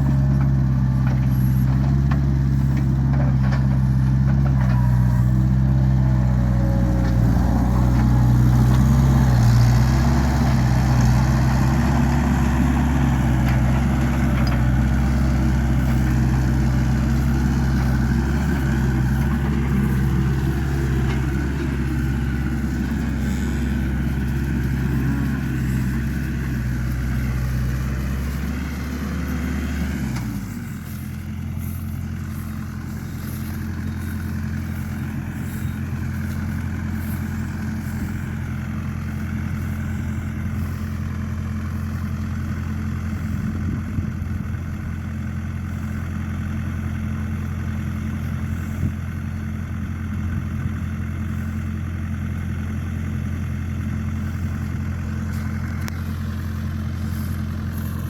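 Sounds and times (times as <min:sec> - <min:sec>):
motor engine running: 0:00.0 - 0:58.0.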